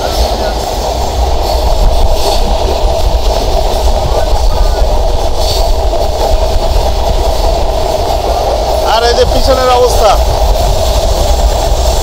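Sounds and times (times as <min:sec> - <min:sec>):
train wheels rumbling and clattering: 0:00.0 - 0:12.0.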